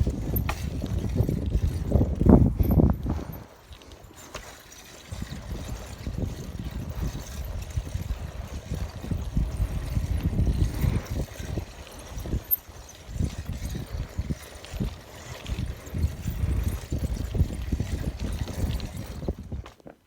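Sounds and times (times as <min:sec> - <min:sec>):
wind buffeting microphone: 0:00.0 - 0:19.7.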